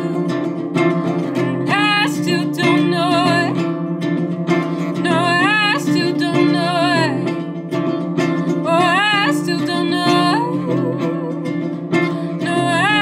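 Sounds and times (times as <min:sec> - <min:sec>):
woman singing with vibrato: 0:00.0 - 0:03.7, 0:04.8 - 0:07.5, 0:08.5 - 0:13.0
acoustic guitar: 0:00.0 - 0:13.0.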